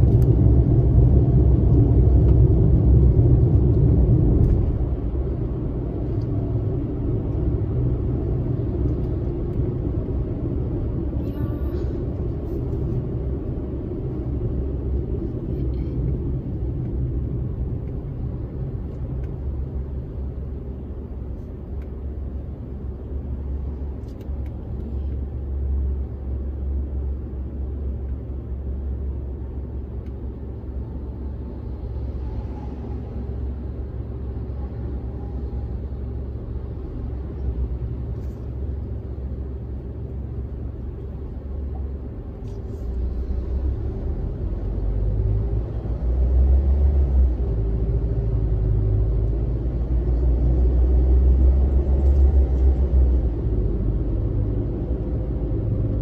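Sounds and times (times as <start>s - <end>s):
car interior road rumble: 0.0s - 56.0s.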